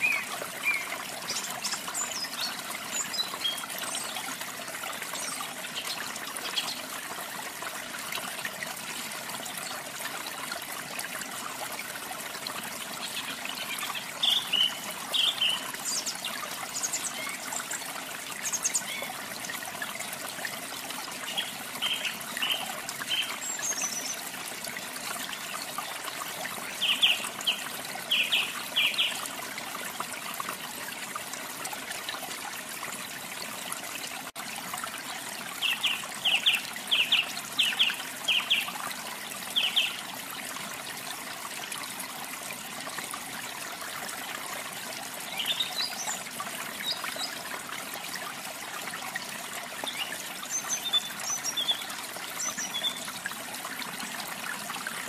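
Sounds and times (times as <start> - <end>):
trickling water: 0.0 - 55.0.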